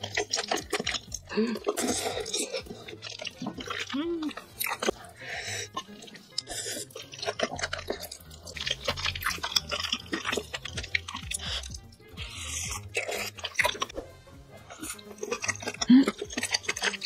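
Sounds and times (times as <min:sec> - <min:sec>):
background music: 0:00.0 - 0:17.0
close-miked wet chewing: 0:00.0 - 0:17.0.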